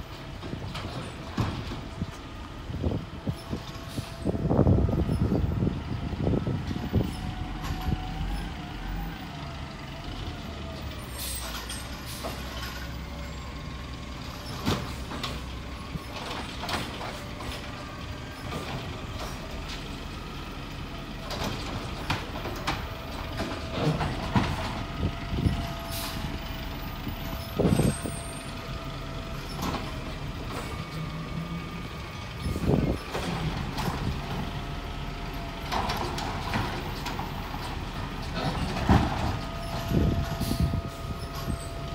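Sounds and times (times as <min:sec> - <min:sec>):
garbage truck engine whining: 0:00.0 - 0:41.9.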